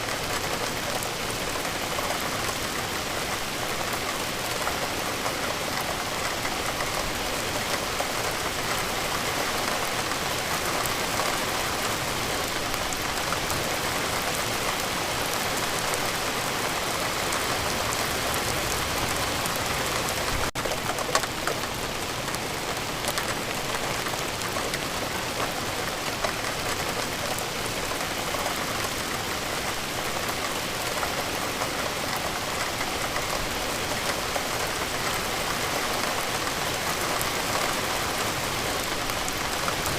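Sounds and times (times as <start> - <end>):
steady rainfall hiss: 0.0 - 39.9
ticks of raindrops: 0.0 - 39.9.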